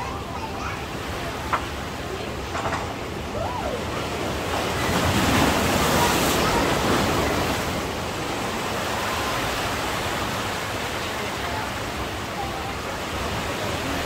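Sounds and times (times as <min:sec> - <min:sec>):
sea waves breaking on beach: 0:00.0 - 0:14.0.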